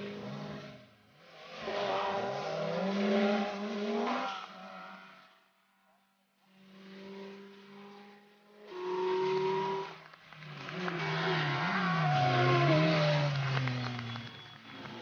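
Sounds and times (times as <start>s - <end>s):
rally car engine accelerating: 0.0s - 5.5s, 6.4s - 15.0s.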